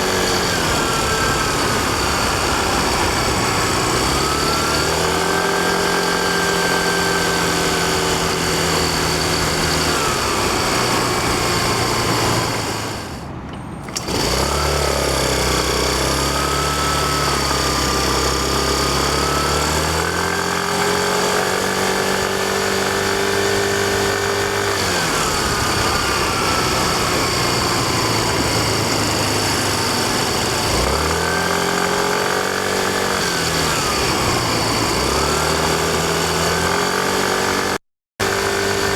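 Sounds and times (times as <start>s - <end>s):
scooter engine running: 0.0s - 38.9s
wind and road noise: 0.0s - 38.9s.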